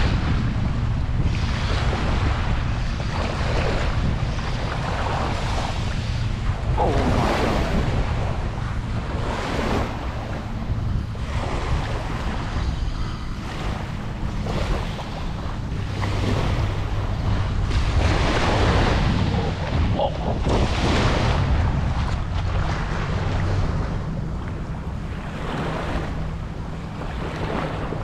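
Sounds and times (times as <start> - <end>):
small waves on sandy beach: 0.0 - 28.0
wind rumbling on microphone: 0.0 - 28.0.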